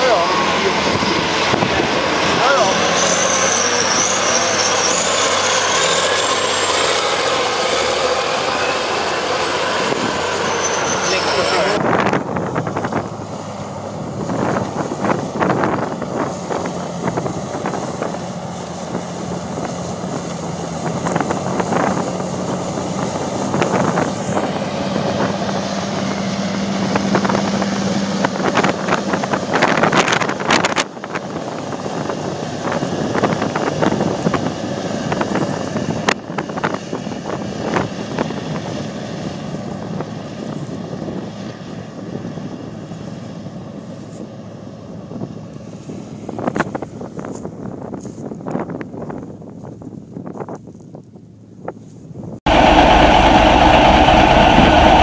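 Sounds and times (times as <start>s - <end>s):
tractor diesel engine droning: 0.0s - 49.1s, 52.4s - 55.0s
wind noise on microphone: 0.1s - 55.0s.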